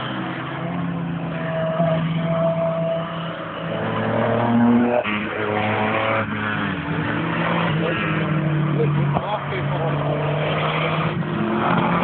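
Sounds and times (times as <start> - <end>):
car engine running hard: 0.0 - 12.0.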